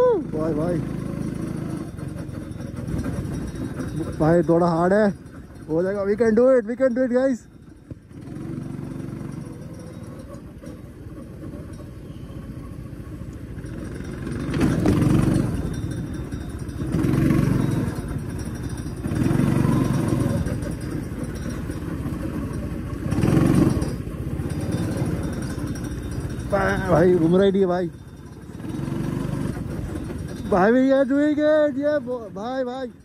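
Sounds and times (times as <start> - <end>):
go-kart engine droning: 0.0 - 33.0.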